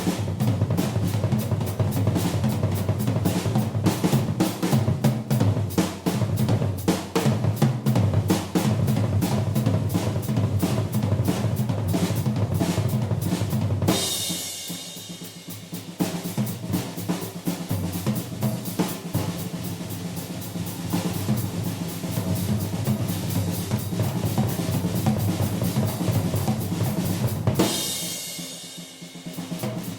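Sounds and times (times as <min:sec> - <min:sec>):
drum kit played fast: 0:00.0 - 0:29.9.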